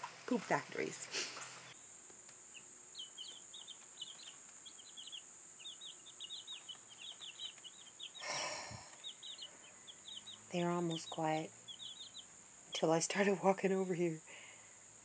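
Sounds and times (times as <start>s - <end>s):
chicks peeping: 0.8s - 14.0s.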